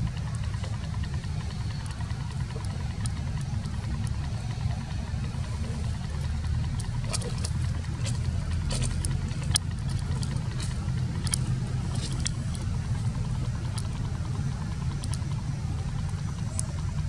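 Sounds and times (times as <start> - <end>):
engine idling: 0.0 - 17.0
faint high clicks: 0.0 - 17.0.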